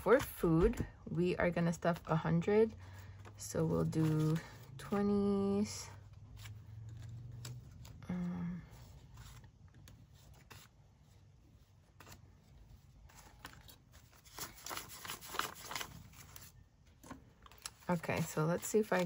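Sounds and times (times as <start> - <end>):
banknotes rustling: 1.6 - 19.0.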